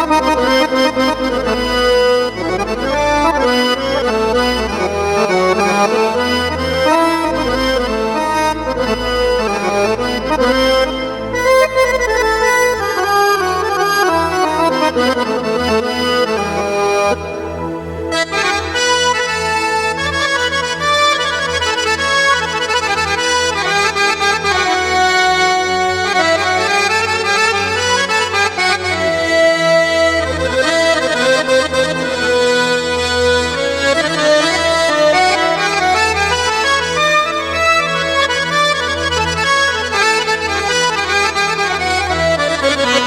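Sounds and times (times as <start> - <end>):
accordion melody: 0.0 - 43.0
pulsing bass accompaniment: 0.0 - 43.0.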